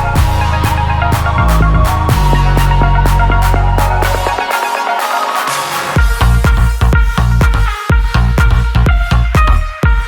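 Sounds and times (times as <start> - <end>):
high synth notes: 0.0 - 9.9
electronic music: 0.0 - 10.0
heavy bass beat: 0.0 - 10.0.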